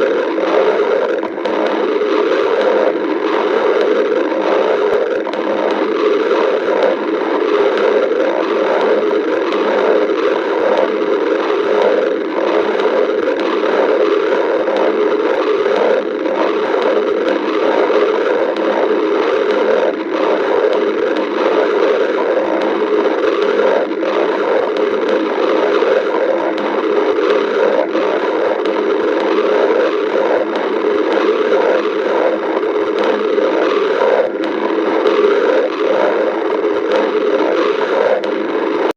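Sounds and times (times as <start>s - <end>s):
stomach rumbling and gurgling: 0.0s - 38.9s.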